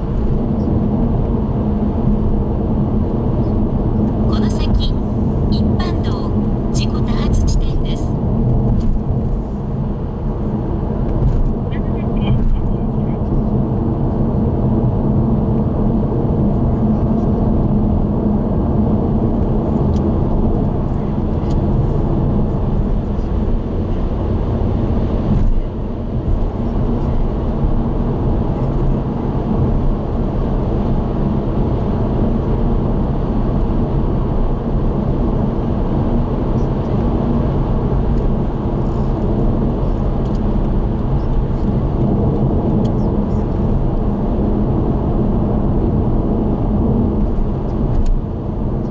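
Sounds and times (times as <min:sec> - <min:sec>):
car engine and road noise: 0:00.0 - 0:48.9.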